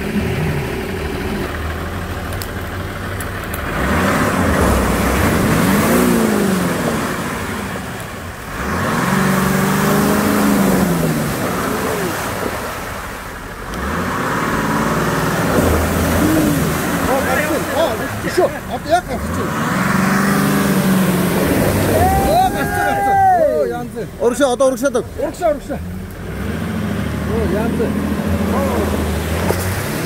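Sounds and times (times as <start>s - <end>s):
suv engine revving: 0.0s - 30.0s.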